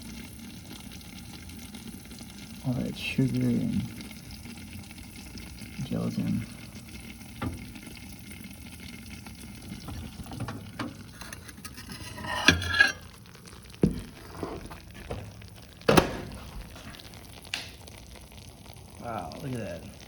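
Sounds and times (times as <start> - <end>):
molten sugar bubbling and crackling: 0.0 - 20.0.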